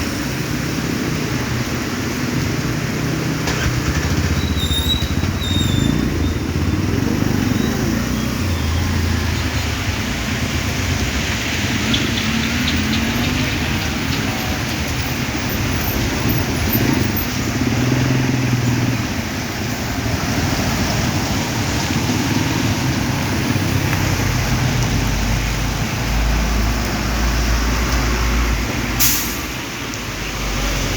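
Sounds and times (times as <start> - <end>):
heavy rain hissing: 0.0 - 30.9
vehicle engine and road noise: 0.0 - 30.9.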